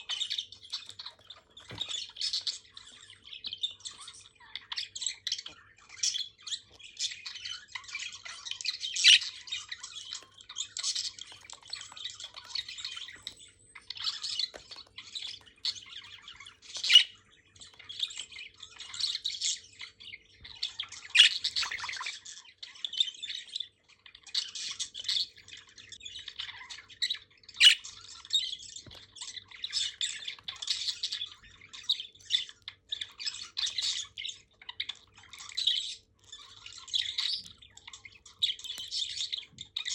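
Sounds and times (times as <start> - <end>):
budgies chattering and chirping: 0.0 - 39.9.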